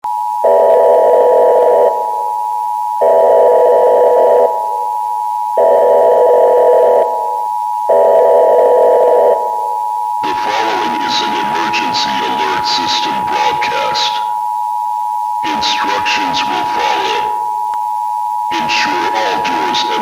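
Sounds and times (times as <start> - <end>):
electronic two-tone alarm signal: 0.1 - 20.0.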